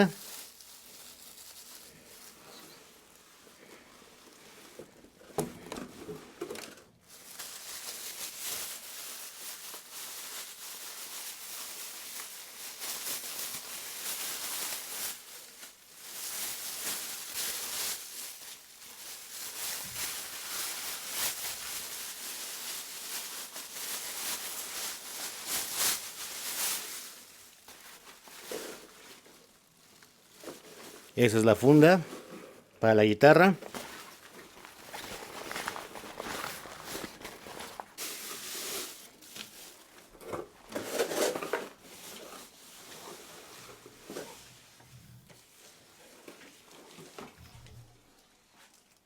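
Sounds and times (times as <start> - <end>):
packaging rustling and crinkling: 0.0 - 49.0.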